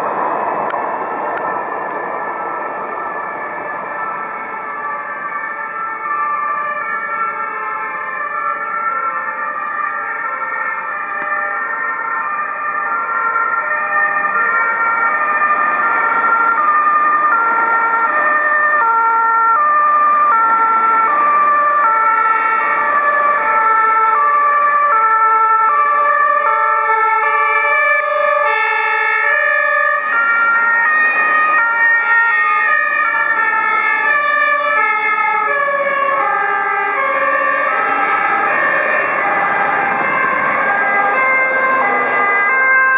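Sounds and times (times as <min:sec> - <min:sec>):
fire engine sirens: 0:00.0 - 0:42.9.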